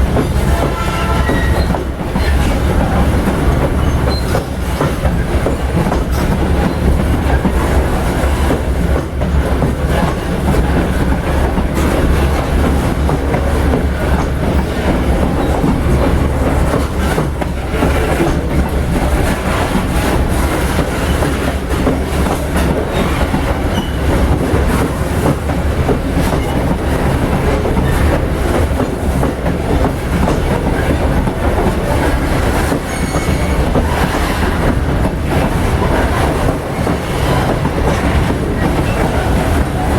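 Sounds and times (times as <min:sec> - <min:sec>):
wheels clacking over rail joints: 0:00.0 - 0:39.9.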